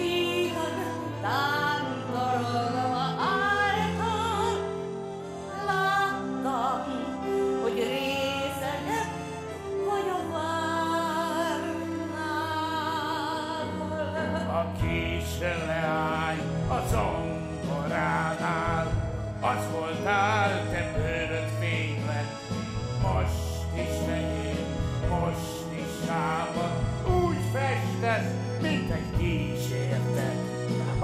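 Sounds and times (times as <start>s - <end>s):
man and woman singing duet: 0.0s - 4.8s, 5.4s - 31.0s
instrumental accompaniment: 0.0s - 31.0s.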